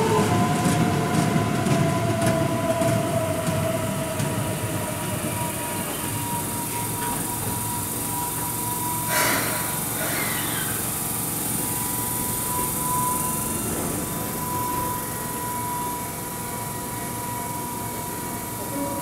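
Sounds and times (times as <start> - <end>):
electric train equipment whine: 0.0 - 19.0.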